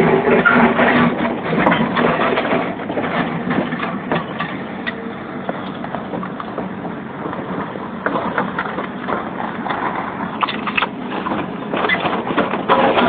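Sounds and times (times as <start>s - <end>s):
backhoe diesel engine running: 0.0s - 13.0s
digging knocks and clanks: 0.0s - 13.0s.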